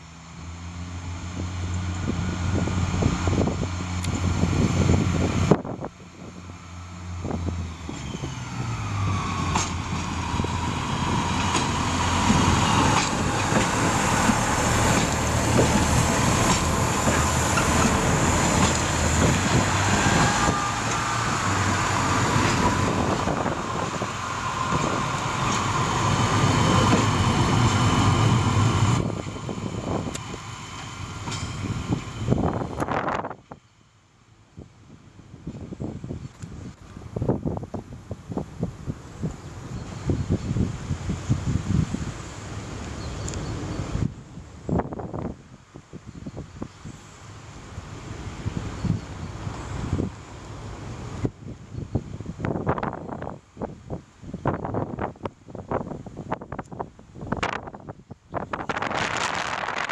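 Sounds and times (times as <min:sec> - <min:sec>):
diesel train engines revving: 0:00.0 - 0:56.5.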